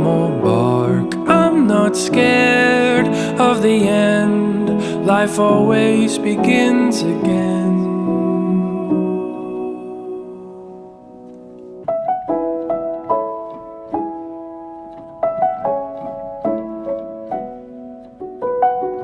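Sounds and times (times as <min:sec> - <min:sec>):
piano notes in rising groups: 0:00.0 - 0:19.0.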